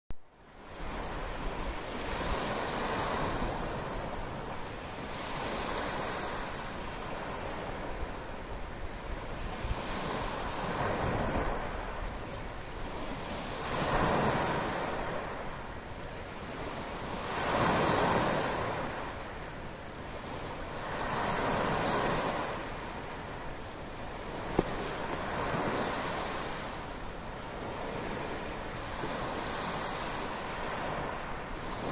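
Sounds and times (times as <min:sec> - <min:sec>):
small waves breaking on sand: 0:00.4 - 0:31.9
wind on microphone: 0:00.6 - 0:15.7, 0:16.3 - 0:31.9.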